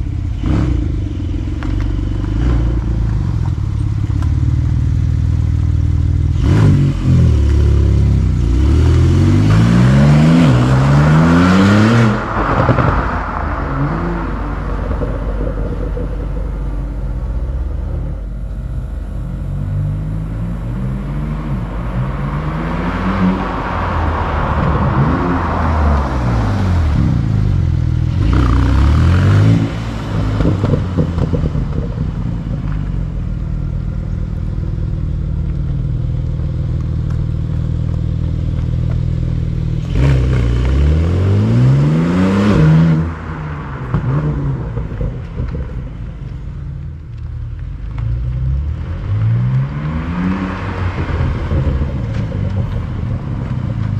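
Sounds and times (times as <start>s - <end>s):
sports car engine revving: 0.0s - 53.9s.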